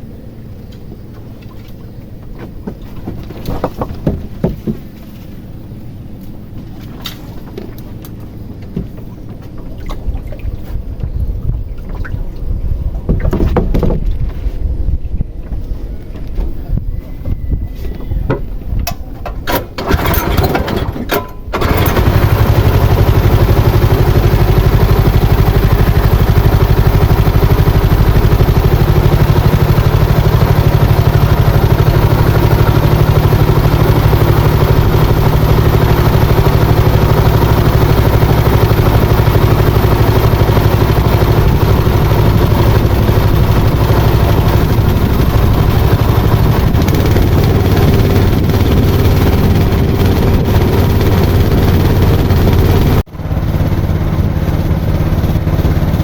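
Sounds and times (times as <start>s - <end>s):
small boat engine running: 0.0s - 14.5s, 15.2s - 56.0s.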